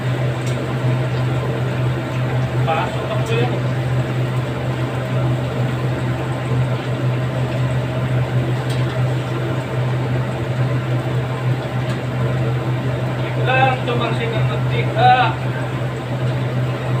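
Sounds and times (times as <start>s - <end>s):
chicken deep-frying in oil: 0.0s - 17.0s
low range hum: 0.0s - 17.0s.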